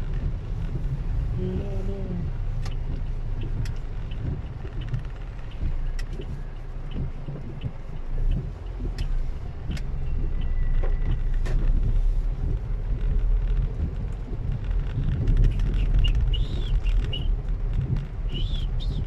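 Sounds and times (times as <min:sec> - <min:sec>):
vehicle engine rumbling: 0:00.0 - 0:19.0
sharp ticks: 0:00.1 - 0:19.0.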